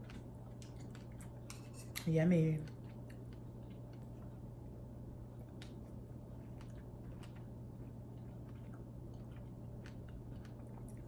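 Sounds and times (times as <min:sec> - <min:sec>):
person chewing wet fruit: 0:00.0 - 0:11.0
steady low hum: 0:00.0 - 0:11.0.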